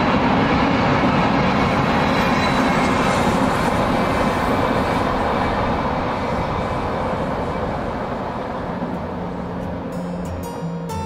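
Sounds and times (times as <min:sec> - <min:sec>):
freight train cars rumbling: 0:00.0 - 0:11.0.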